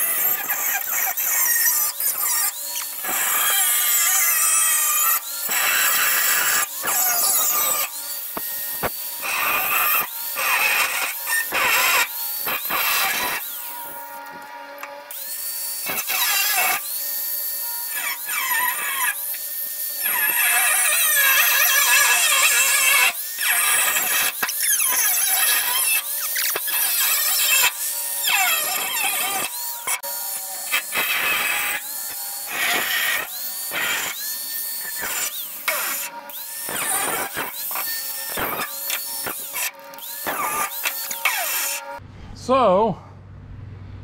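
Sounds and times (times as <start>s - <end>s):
cut-off wheel grinding steel: 0.0s - 42.1s.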